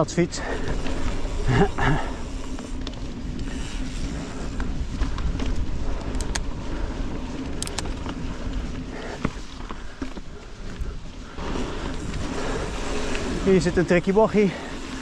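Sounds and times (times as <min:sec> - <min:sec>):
bike clicks and rattles: 0:00.0 - 0:15.0
bike tyres rumbling on dirt: 0:00.0 - 0:15.0
wind noise on microphone: 0:00.4 - 0:14.0.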